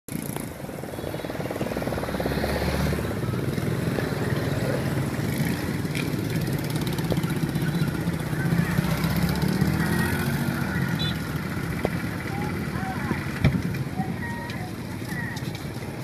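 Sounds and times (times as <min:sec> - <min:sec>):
small engine running: 0:00.1 - 0:13.4
street noise: 0:00.1 - 0:16.0.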